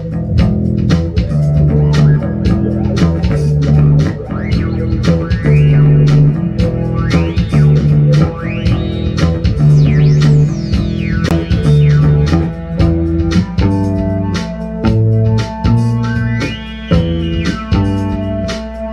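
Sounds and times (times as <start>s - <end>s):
electric bass riff: 0.0s - 18.5s
gliding synthesizer lines: 0.0s - 18.9s
steady drum beat: 0.0s - 18.9s.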